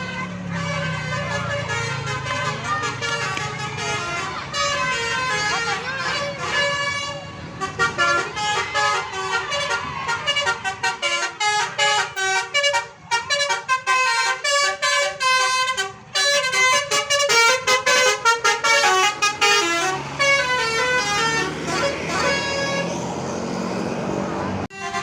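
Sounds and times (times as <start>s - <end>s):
bus musical horn melody: 0.0s - 23.4s, 24.6s - 25.0s.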